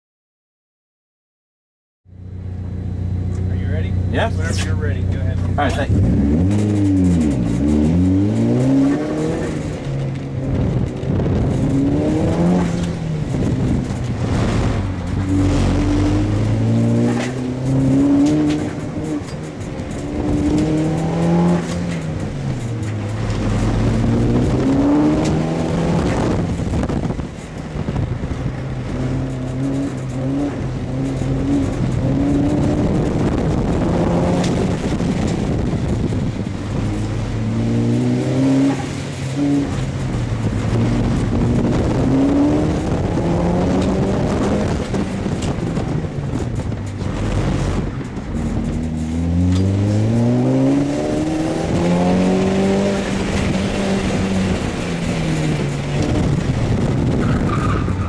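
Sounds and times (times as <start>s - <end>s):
car engine revving hard: 3.6s - 58.0s.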